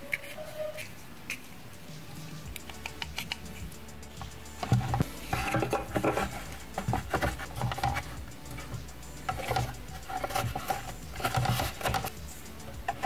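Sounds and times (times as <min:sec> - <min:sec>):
plastic parts rubbing and scraping: 0:00.0 - 0:13.0.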